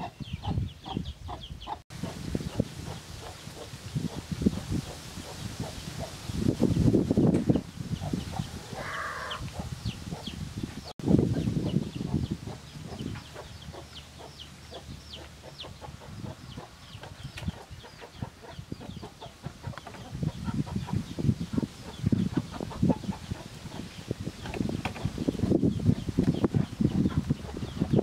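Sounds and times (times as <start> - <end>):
chickens clucking: 0.0 - 6.2, 7.2 - 10.4, 11.3 - 28.0
chicks peeping: 0.0 - 28.0
small birds chirping: 0.0 - 28.0.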